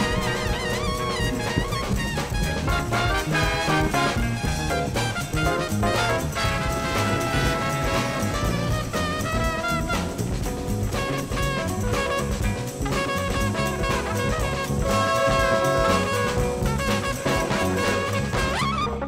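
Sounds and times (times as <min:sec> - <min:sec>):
jazz music with horns and drums: 0:00.0 - 0:19.0.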